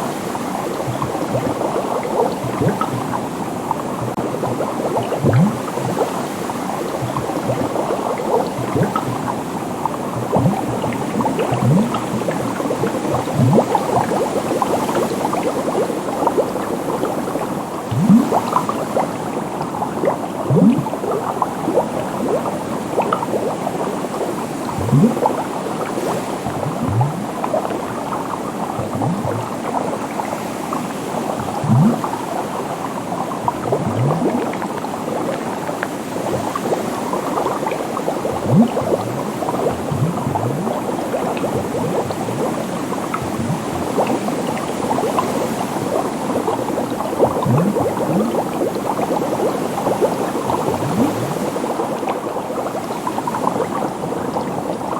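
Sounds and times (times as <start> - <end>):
bubbling water: 0.0 - 54.9
large bubble plopping: 0.8 - 6.1, 6.9 - 14.6, 17.8 - 19.0, 20.0 - 23.8, 24.6 - 25.6, 26.4 - 30.2, 31.2 - 32.2, 33.2 - 35.3, 36.2 - 54.7.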